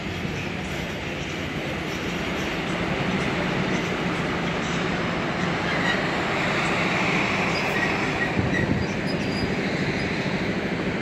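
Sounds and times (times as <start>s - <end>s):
train engine running: 0.0s - 11.0s
wheels rumbling on rails: 0.0s - 11.0s
wheels squeaking on rails: 0.0s - 11.0s.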